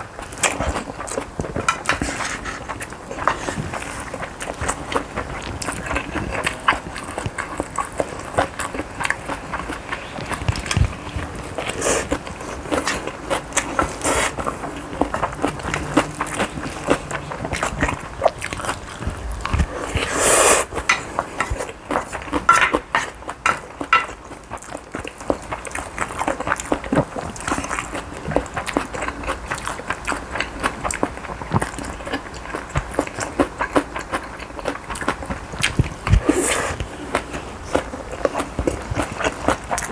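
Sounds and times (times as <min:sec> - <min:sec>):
chewing and biting: 0:00.0 - 0:39.9.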